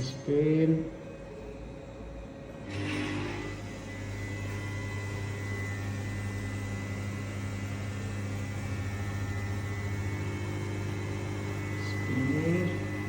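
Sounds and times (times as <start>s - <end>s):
balancing machine hum: 0.0s - 13.0s.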